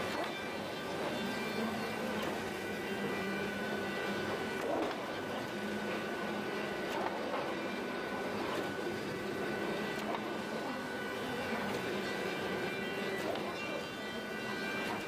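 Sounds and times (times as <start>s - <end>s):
machinery hum with high whine: 0.0s - 15.0s.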